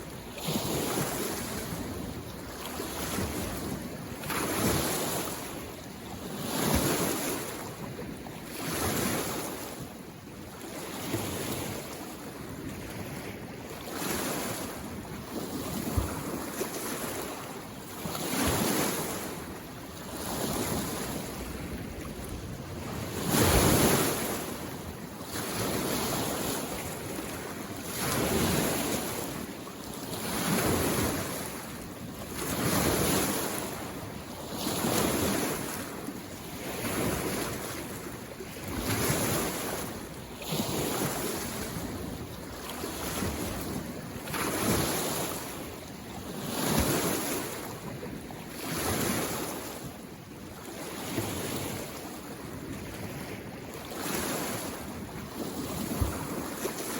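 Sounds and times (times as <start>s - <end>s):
lake waves washing on shore: 0.0s - 56.9s.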